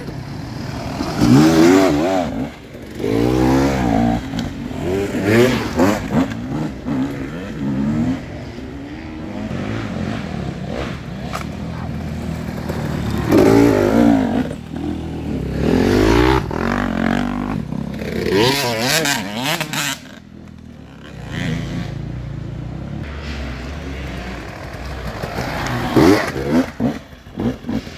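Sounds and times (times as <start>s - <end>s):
dirt bikes revving: 0.0s - 27.9s.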